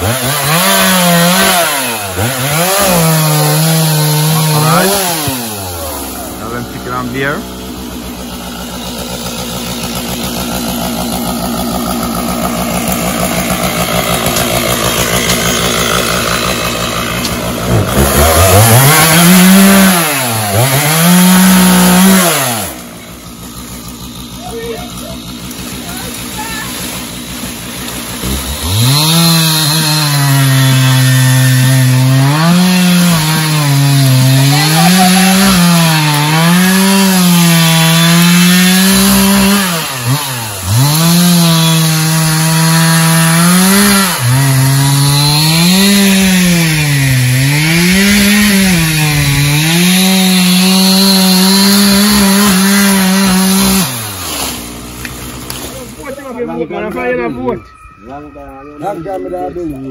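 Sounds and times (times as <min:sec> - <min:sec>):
power tool engine revving: 0:00.0 - 0:56.1.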